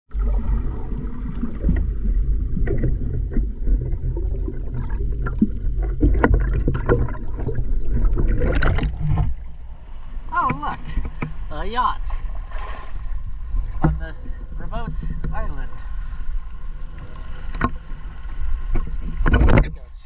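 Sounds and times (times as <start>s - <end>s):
knocks and splashes: 0.1s - 16.0s, 16.9s - 19.9s
boat engine rumble: 0.1s - 20.0s.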